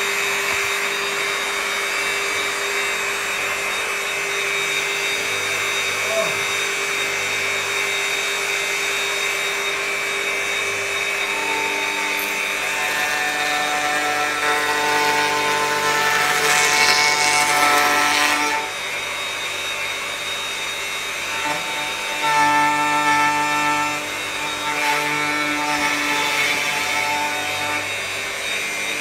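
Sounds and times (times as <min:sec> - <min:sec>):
router bit cutting wood hiss: 0:00.0 - 0:29.0
wood router whining: 0:00.0 - 0:29.0.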